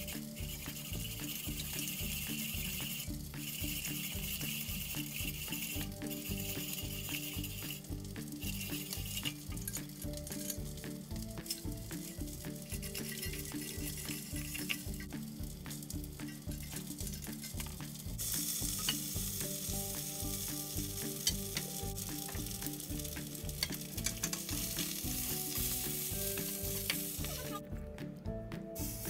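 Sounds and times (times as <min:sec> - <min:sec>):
food sizzling in a pan: 0:00.0 - 0:27.6, 0:28.8 - 0:29.0
background music with beat: 0:00.0 - 0:29.0.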